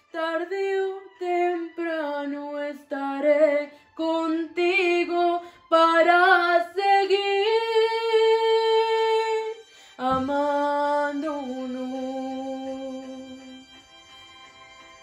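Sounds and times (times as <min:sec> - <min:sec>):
woman singing unaccompanied: 0:00.0 - 0:13.6.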